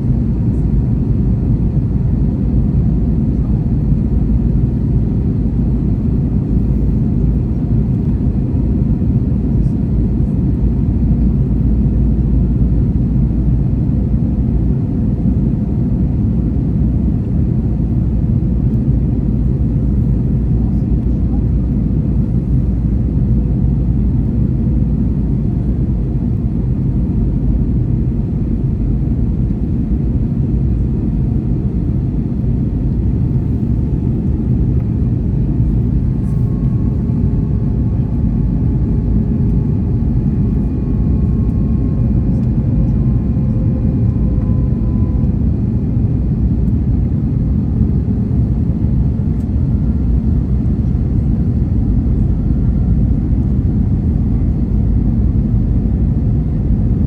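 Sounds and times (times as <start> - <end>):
engine and air rumble in cabin: 0.0 - 57.0.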